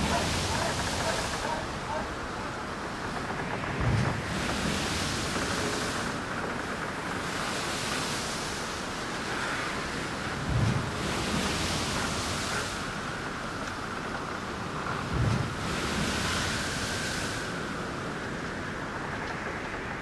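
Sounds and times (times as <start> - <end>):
sea waves breaking: 0.0 - 20.0.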